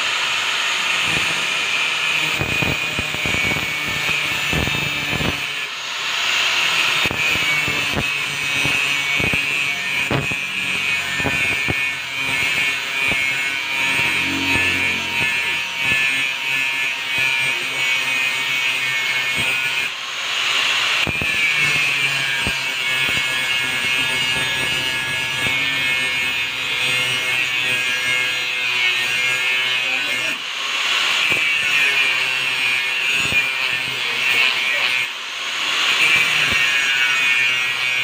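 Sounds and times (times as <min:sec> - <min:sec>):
angle grinder cutting steel: 0:00.0 - 0:38.0.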